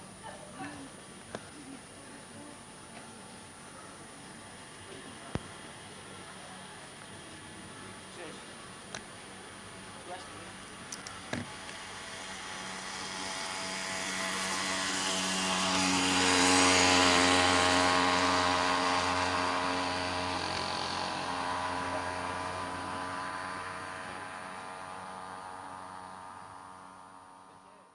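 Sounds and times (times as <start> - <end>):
passing engine hum with hiss: 0.0 - 27.9.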